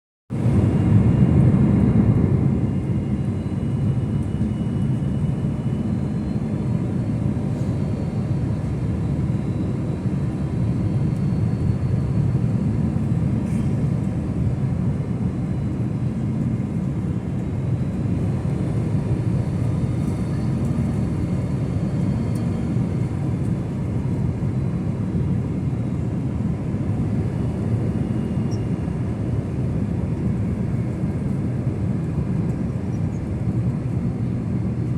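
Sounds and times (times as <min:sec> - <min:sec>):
jet airliner low rumble: 0:00.3 - 0:34.9.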